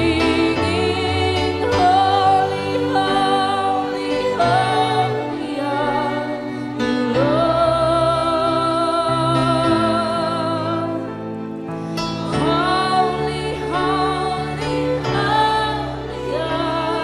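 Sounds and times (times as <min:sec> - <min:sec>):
instrumental accompaniment: 0:00.0 - 0:17.0
person singing worship song: 0:00.0 - 0:17.0.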